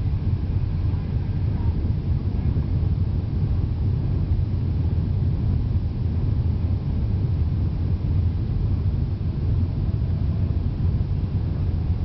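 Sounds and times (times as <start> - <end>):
airplane cabin low rumble: 0.0 - 12.0.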